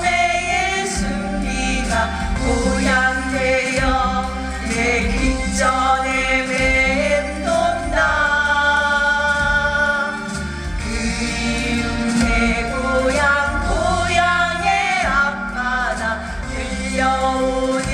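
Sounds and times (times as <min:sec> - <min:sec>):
choir-like voices singing: 0:00.0 - 0:17.9
low musical accompaniment: 0:00.0 - 0:17.9.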